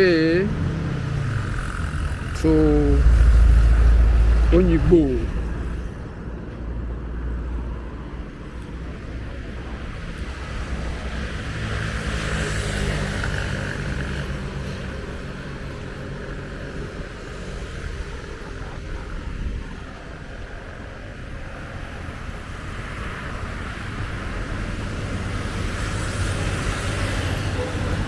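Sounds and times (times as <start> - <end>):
passing vehicle engine and tyres: 0.0 - 28.0
traffic rumble: 0.0 - 28.0.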